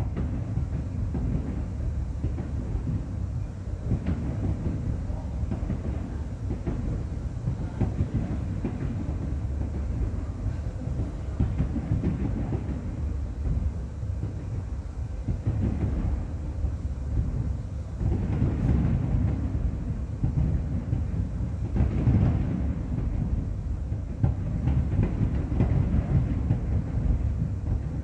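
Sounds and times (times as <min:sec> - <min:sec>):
distant fireworks booming: 0:00.0 - 0:28.0
fireworks sharp cracks: 0:00.0 - 0:28.0.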